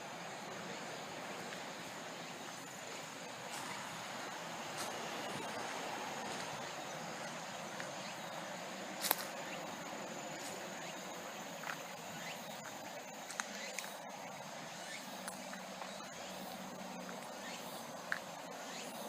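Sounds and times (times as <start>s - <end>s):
distant expressway traffic hiss: 0.0s - 19.0s
faint high insect trill: 0.0s - 19.0s.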